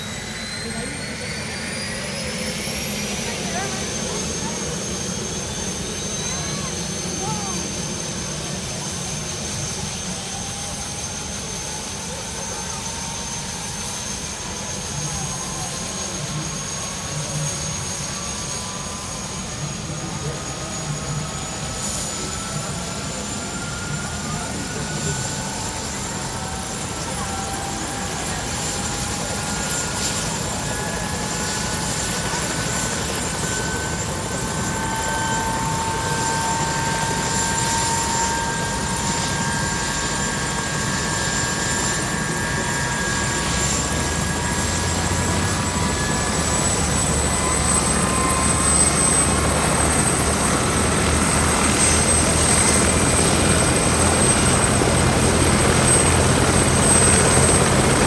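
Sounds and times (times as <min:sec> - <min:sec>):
helicopter rotor beat: 0:00.0 - 0:58.0
helicopter turbine whine: 0:00.0 - 0:58.0.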